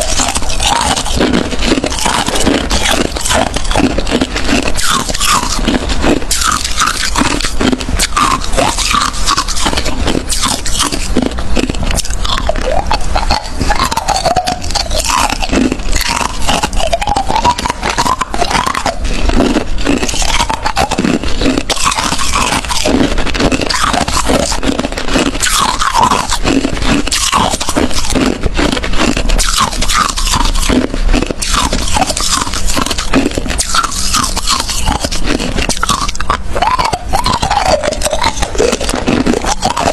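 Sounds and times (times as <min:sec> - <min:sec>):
crunching ice being chewed: 0:00.0 - 0:39.9.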